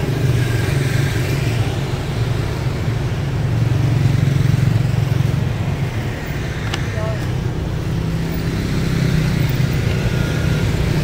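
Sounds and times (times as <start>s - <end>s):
motorbike and car engines passing: 0.0s - 11.0s.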